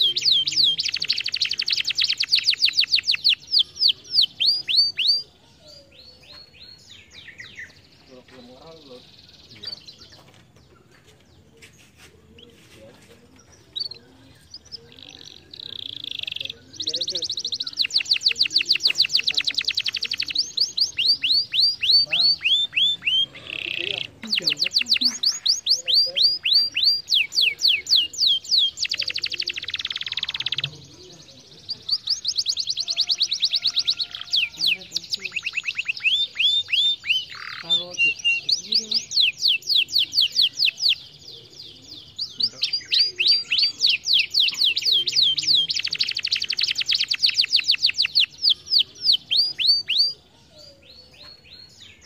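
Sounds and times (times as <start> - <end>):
canary chirping and trilling: 0.0 - 52.0.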